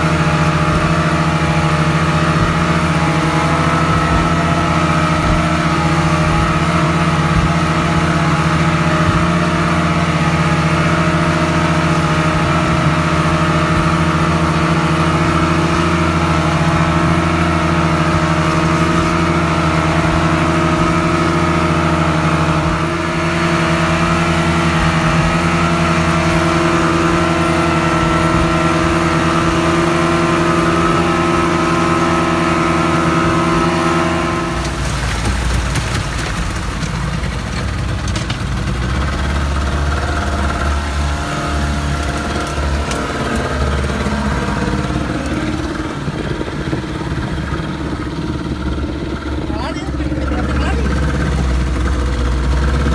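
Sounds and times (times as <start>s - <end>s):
outboard motors at high speed: 0.0s - 52.9s
water rushing and splashing: 0.0s - 52.9s.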